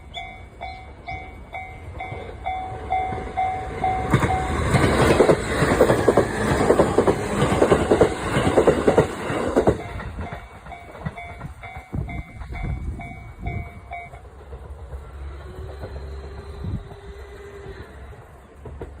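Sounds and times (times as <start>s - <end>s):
crossing warning bell dinging: 0.0s - 17.3s
train wheels clattering: 0.1s - 19.0s.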